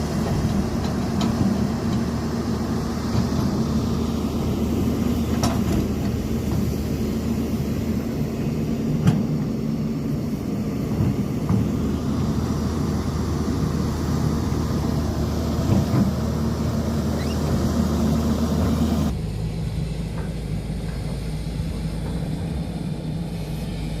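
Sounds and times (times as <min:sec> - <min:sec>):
diesel engines humming: 0:00.0 - 0:24.0.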